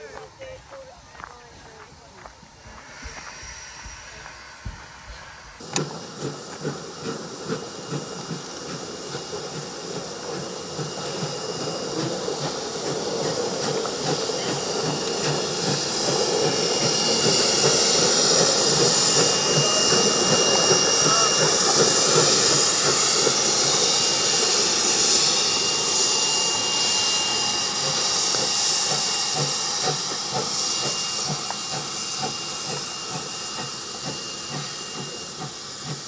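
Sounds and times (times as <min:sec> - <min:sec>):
hissing steam: 0:00.0 - 0:36.0
steam locomotive exhaust chuffs: 0:00.0 - 0:36.0.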